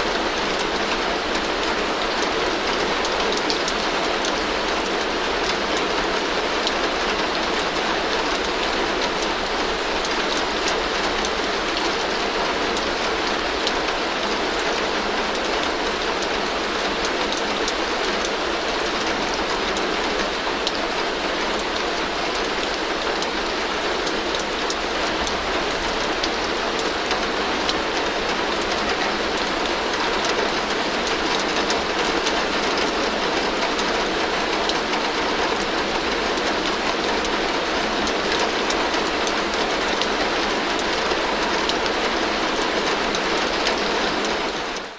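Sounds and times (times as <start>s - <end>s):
heavy rain on a tin roof: 0.0s - 44.9s.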